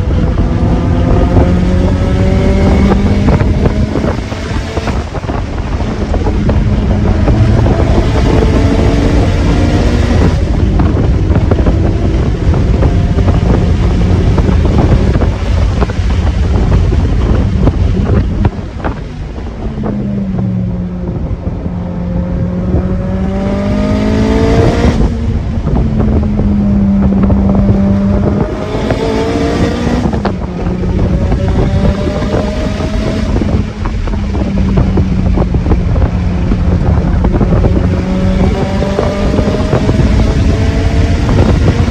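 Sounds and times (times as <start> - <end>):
car engine accelerating: 0.0 - 41.9
wind noise: 0.0 - 41.9.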